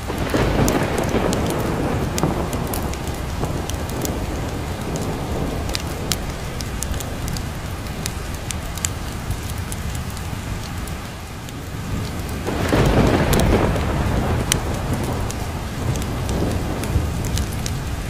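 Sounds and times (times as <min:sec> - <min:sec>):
low rolling thunder: 0:00.0 - 0:10.9, 0:11.5 - 0:18.0
steady rain: 0:00.0 - 0:18.0.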